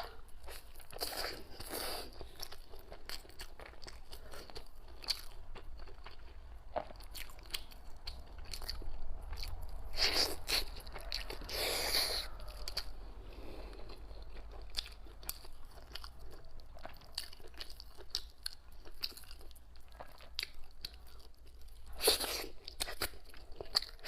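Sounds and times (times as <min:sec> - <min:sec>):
chewing with wet mouth clicks: 0:00.4 - 0:24.0.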